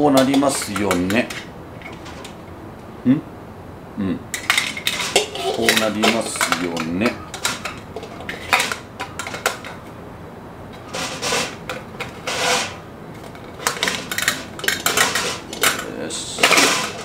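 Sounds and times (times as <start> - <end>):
metal scraping: 0.0 - 2.4, 4.3 - 9.9, 10.7 - 17.0
metal parts clinking: 0.2 - 2.3, 4.4 - 9.8, 10.9 - 17.0.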